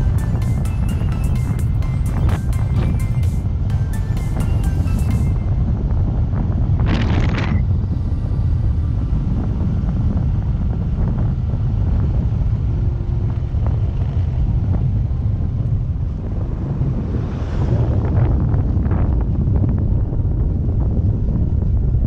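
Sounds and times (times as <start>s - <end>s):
low motorcycle rumble: 0.0s - 22.0s
wind buffeting microphone: 0.0s - 22.0s.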